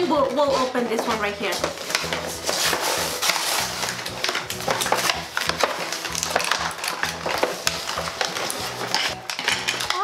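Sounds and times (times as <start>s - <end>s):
plastic packaging crackling: 0.0s - 10.0s.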